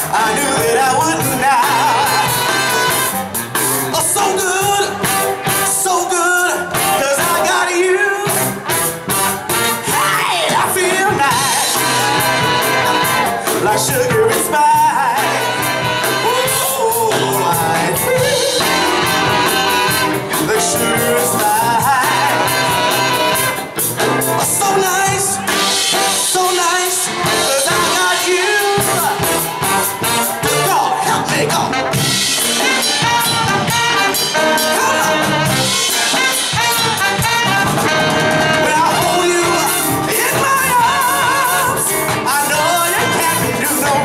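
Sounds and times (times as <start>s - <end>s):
man singing into a microphone: 0.0s - 3.0s, 3.9s - 8.6s, 9.7s - 23.6s, 24.4s - 29.4s, 30.4s - 32.0s, 33.1s - 36.3s, 38.0s - 44.0s
drums: 0.0s - 44.0s
electric guitars: 0.0s - 44.0s
trumpet: 0.0s - 44.0s.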